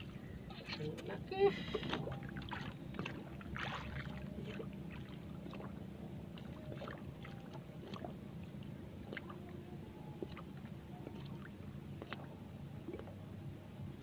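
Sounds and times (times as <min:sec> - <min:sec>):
steady low hum: 0:00.0 - 0:14.0
water lapping against a boat: 0:00.0 - 0:14.0.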